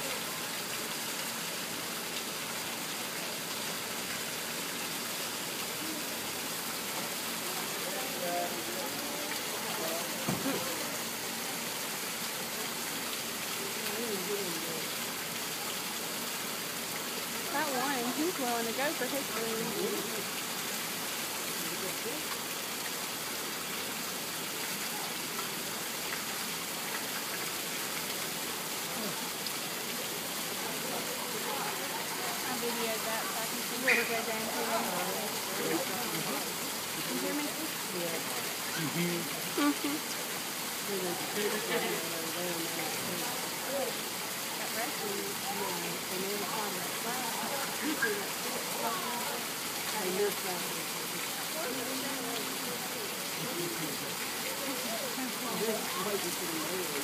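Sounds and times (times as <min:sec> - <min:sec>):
water spilling into pool: 0:00.0 - 0:57.0.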